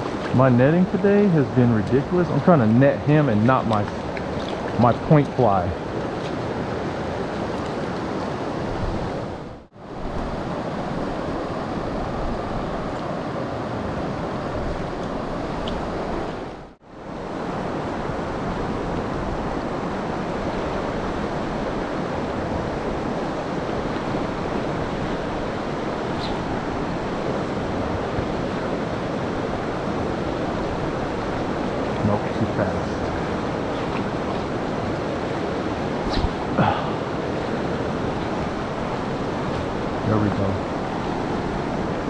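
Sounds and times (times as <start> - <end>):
river water over rocks: 0.0 - 42.0.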